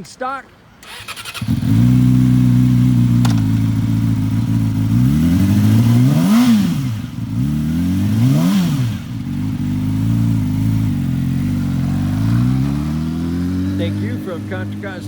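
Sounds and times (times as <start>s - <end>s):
motorcycle engine idling and revving: 0.8s - 15.0s.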